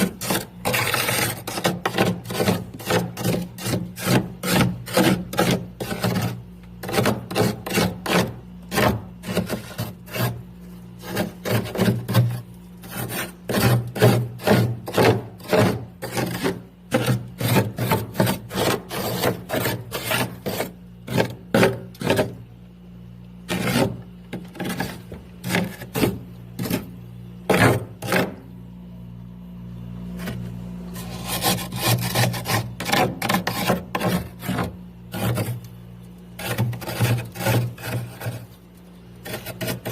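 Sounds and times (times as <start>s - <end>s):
freezer ice being scraped: 0.0s - 22.6s, 23.4s - 28.6s, 30.0s - 39.9s
steady low hum: 0.0s - 39.9s.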